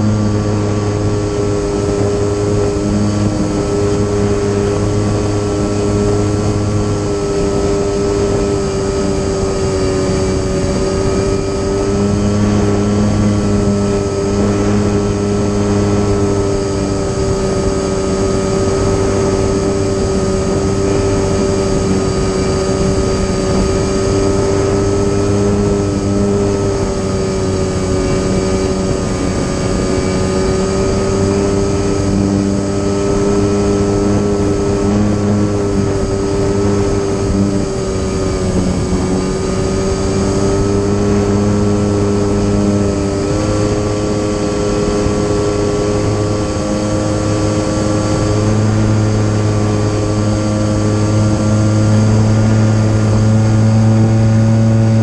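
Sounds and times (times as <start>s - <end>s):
electric propeller whine: 0.0s - 55.0s
low buzz: 0.0s - 55.0s.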